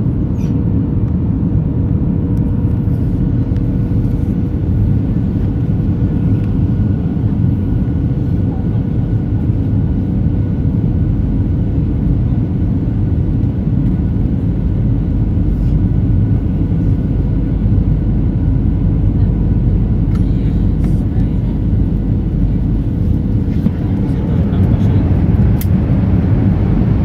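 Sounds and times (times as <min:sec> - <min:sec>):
jet engines and rushing air: 0:00.0 - 0:27.0.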